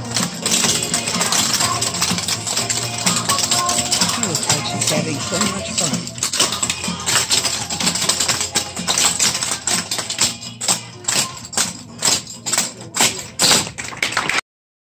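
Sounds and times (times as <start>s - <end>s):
background music: 0.0s - 14.3s.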